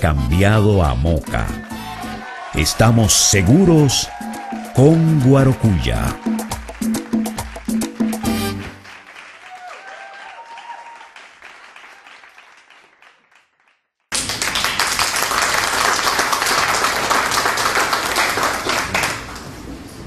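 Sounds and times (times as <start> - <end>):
audience applauding: 1.6 - 19.6.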